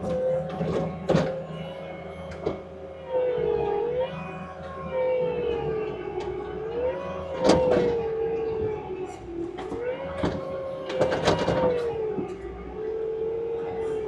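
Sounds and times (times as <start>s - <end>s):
diesel engine and hydraulics whining: 0.0s - 14.0s.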